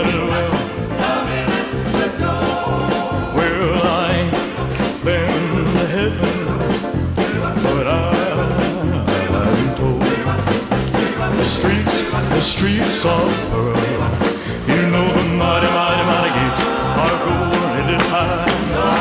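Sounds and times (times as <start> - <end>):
upbeat rock and roll music: 0.0 - 19.0.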